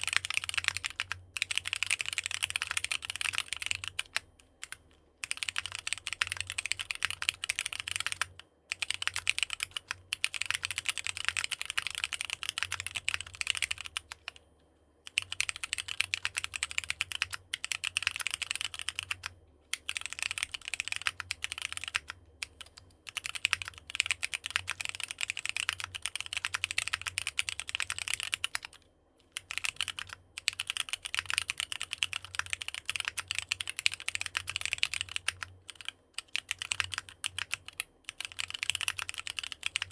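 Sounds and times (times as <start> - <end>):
mechanical keyboard typing: 0.0 - 14.4, 15.1 - 39.9.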